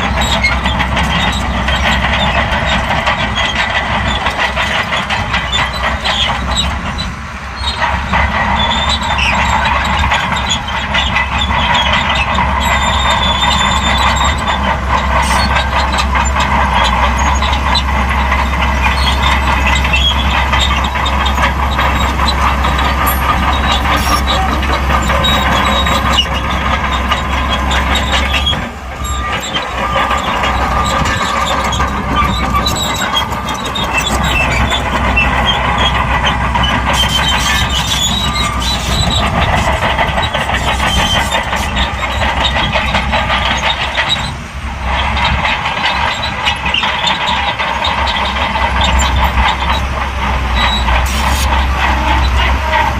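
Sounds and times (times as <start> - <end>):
bulldozer diesel engine under load: 0.0 - 52.9
steel tracks moving: 0.0 - 52.9.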